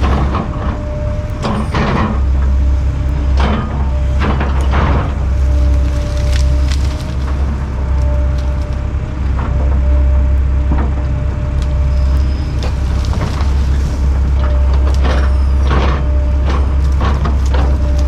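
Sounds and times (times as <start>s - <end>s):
wood cracking and splintering: 0.0s - 9.8s, 10.8s - 18.0s
diesel machine running: 0.0s - 18.0s.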